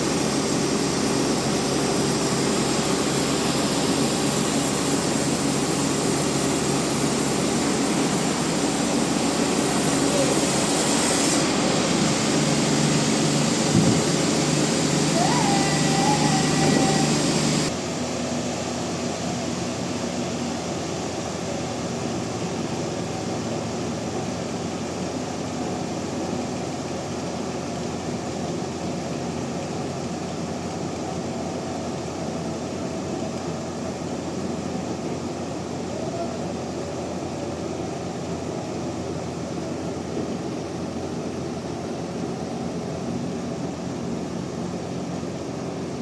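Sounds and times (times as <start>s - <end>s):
sawmill machinery drone: 0.0s - 46.0s.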